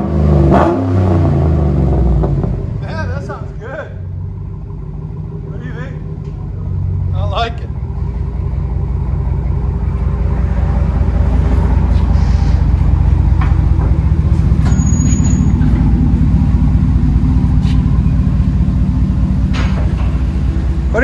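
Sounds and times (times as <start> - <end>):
deep engine exhaust rumble: 0.0 - 21.0.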